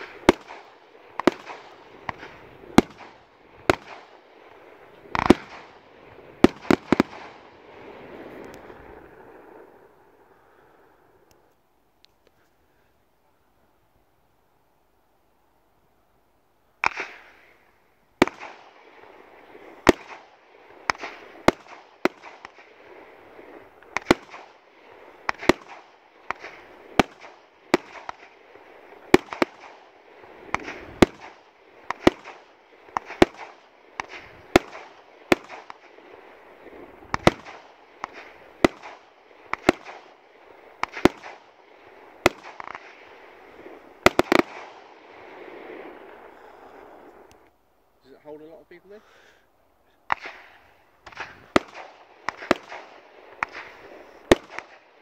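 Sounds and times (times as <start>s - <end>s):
firework bangs: 0.0s - 10.0s, 16.8s - 47.4s, 50.1s - 55.0s.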